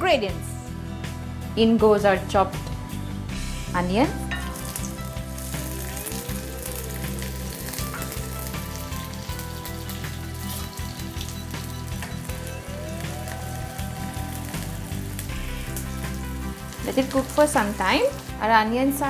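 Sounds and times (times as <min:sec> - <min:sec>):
onions sizzling in hot oil: 0:03.4 - 0:19.0.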